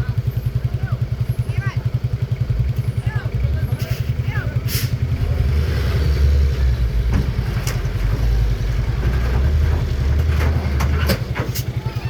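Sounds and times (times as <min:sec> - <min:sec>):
dump truck engine rumbling: 0:00.0 - 0:12.0.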